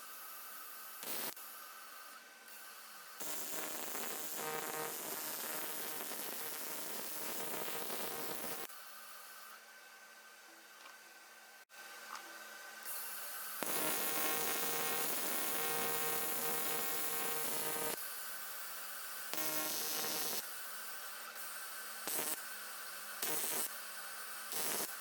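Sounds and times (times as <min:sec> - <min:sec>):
welding arc buzzing and hissing: 0:00.0 - 0:09.6, 0:12.9 - 0:25.0.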